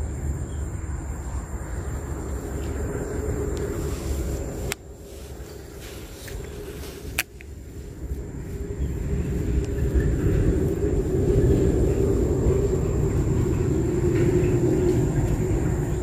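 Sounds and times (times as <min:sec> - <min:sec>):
vehicle passing on road: 0:00.0 - 0:16.0.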